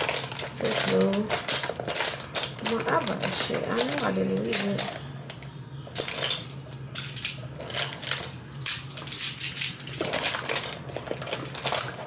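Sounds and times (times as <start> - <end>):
cosmetic containers clinking: 0.0 - 12.0.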